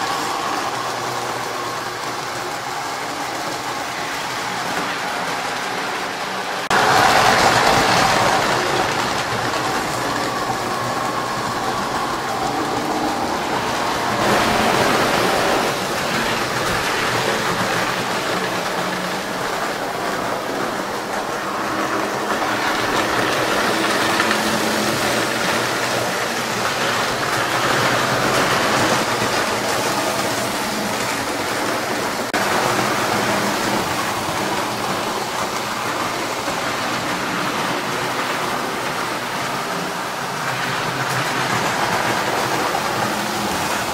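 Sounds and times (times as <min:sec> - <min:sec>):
model train whirring on rails: 0:00.0 - 0:43.9.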